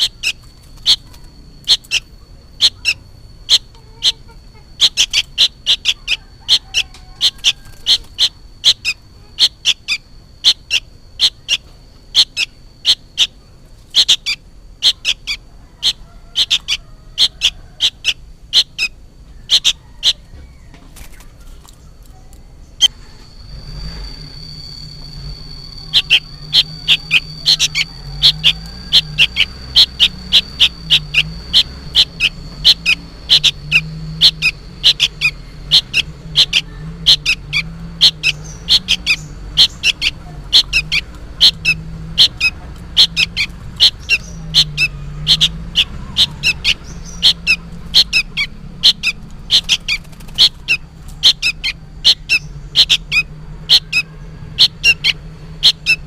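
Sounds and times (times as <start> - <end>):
young bird chirping begging calls: 0.0 - 20.3, 21.0 - 56.0.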